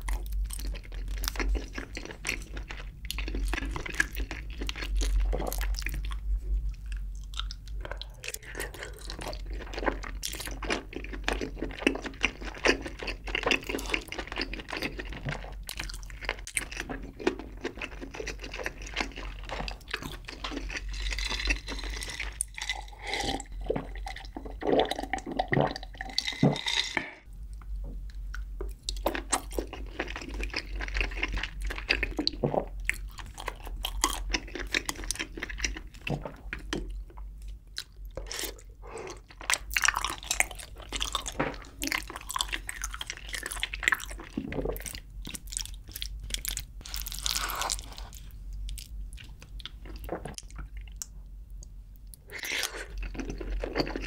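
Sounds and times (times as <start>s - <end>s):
close chewing with wet sounds: 0.0s - 26.1s, 28.2s - 54.0s.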